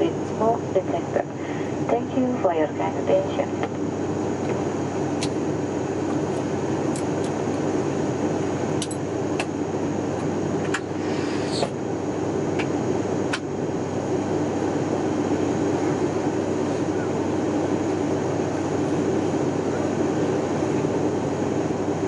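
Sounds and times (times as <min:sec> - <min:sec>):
airliner cabin drone: 0:00.0 - 0:22.0.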